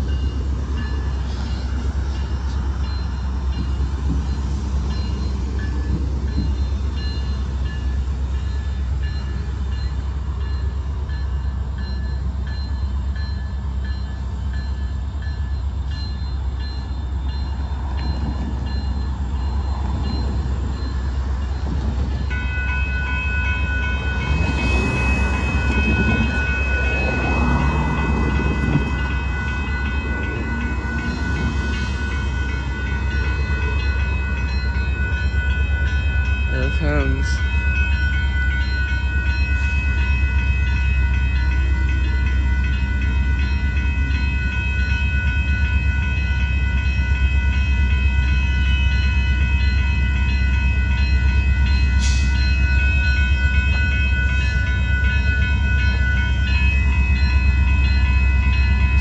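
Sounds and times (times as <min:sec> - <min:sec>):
crossing warning bell ringing: 0:00.0 - 0:59.0.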